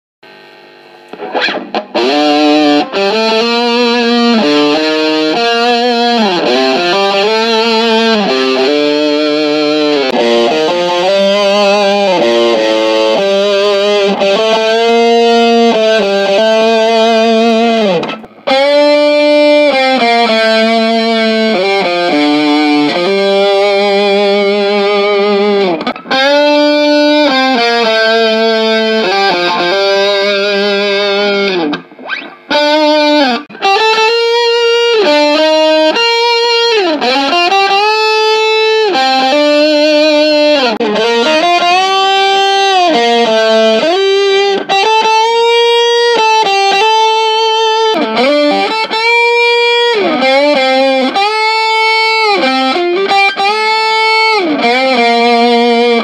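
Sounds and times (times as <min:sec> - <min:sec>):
distorted electric guitar lead: 0:00.2 - 0:56.0.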